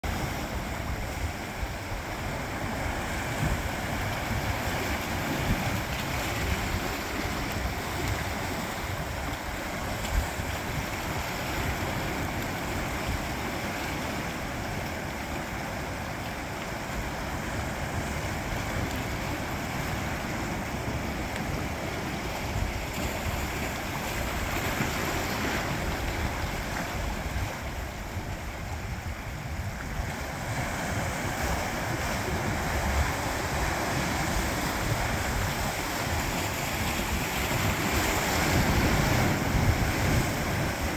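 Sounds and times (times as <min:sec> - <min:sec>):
sea waves against rocks: 0:00.0 - 0:40.9
wind buffeting microphone: 0:00.0 - 0:40.9.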